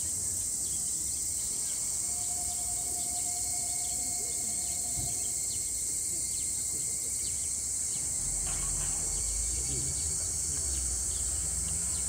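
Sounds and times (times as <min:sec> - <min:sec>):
faint steady tone: 0:00.0 - 0:10.7
insects chorus: 0:00.0 - 0:12.0.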